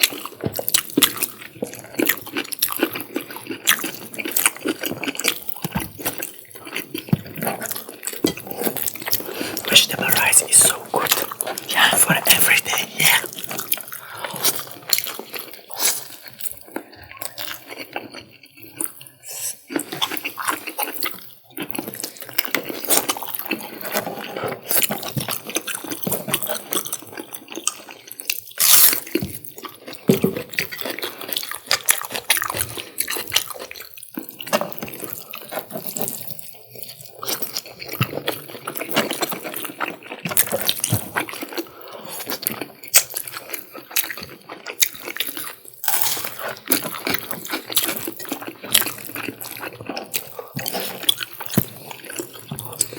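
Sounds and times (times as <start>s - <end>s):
wet eating and chewing: 0.0s - 52.9s.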